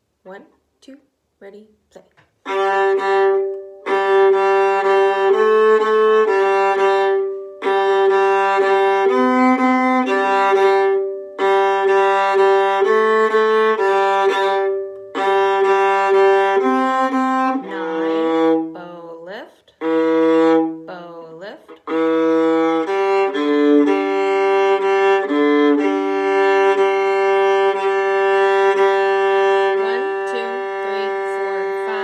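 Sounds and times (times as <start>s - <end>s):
bowed viola notes: 2.0s - 32.0s.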